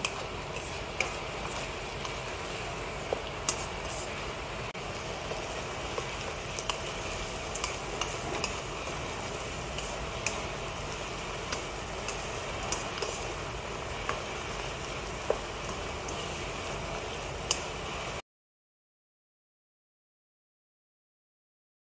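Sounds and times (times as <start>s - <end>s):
food sizzling in a wok: 0.0s - 18.2s.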